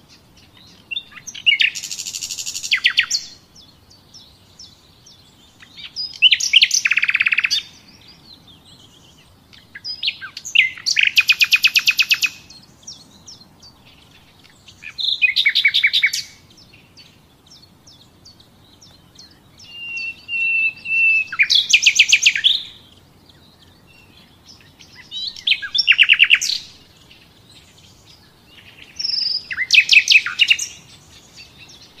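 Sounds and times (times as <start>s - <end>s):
songbird trilling: 0.0s - 32.0s.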